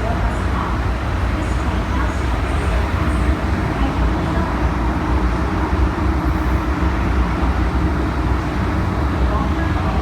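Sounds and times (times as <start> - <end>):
train cabin low rumble: 0.0 - 10.0.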